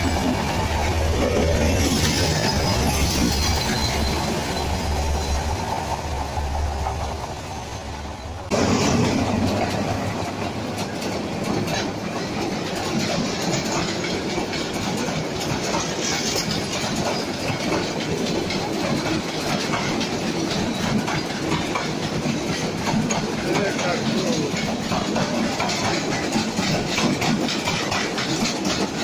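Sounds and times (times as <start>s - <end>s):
rapid clickety-clack of wheels: 0.0s - 29.0s
train wheels rumbling on rails: 0.0s - 29.0s.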